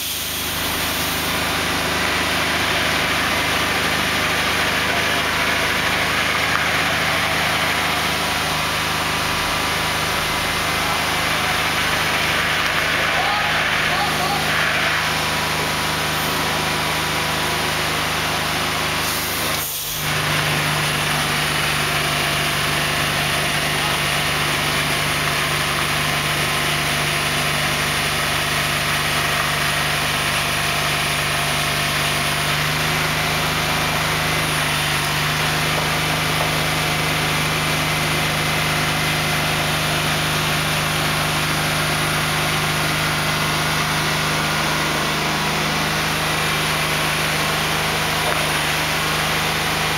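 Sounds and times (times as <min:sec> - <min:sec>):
heavy truck engine droning: 0:00.0 - 0:49.9.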